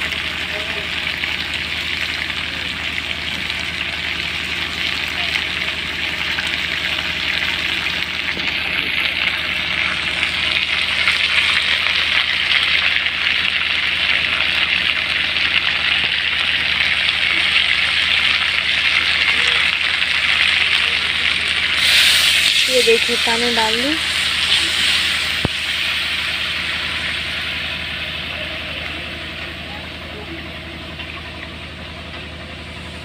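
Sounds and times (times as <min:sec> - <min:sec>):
fish sizzling in oil: 0:00.0 - 0:33.0.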